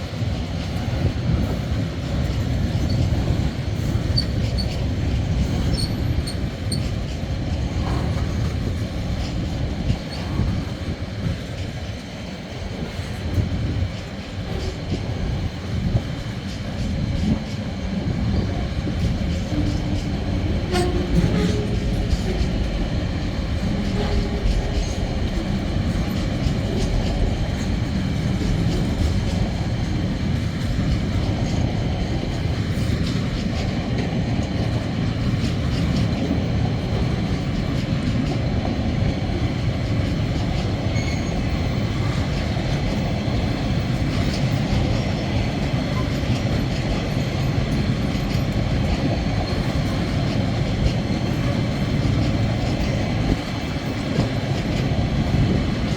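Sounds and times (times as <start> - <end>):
freight train rolling past: 0.0 - 55.9.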